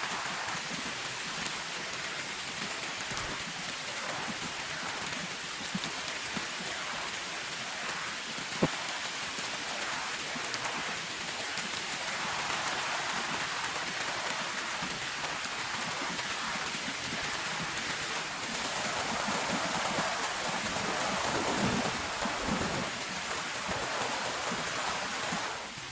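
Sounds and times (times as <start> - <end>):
heavy rain: 0.0 - 25.9.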